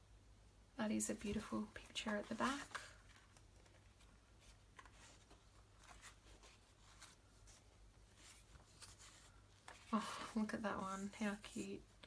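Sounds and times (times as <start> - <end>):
paper pages rustling: 1.1 - 12.0.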